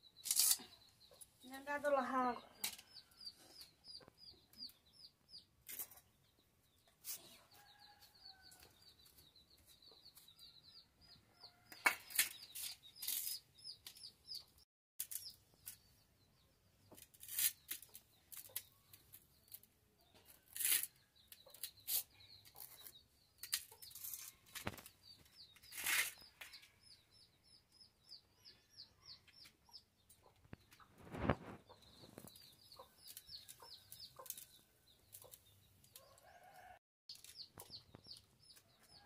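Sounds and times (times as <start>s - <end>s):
small bird chirping: 0.0s - 39.0s.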